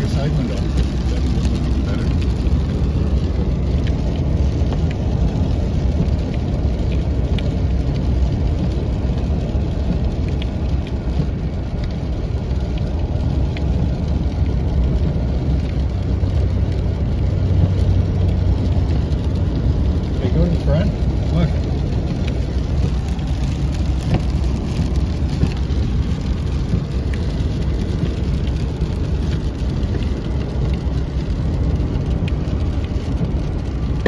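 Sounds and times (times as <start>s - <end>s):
rain ticking on glass: 0.0s - 34.0s
road and tyre rumble in car: 0.0s - 34.0s.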